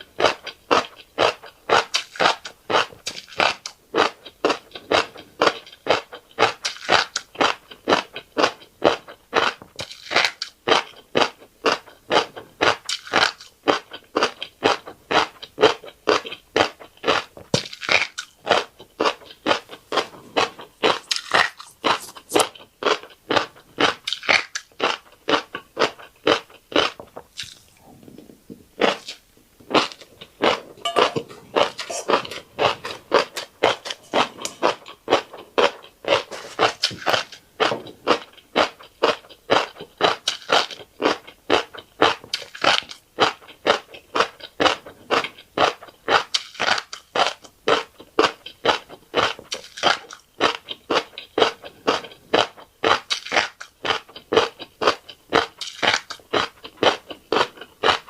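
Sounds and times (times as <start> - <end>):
crisp chewing and crunching: 0.0 - 58.0.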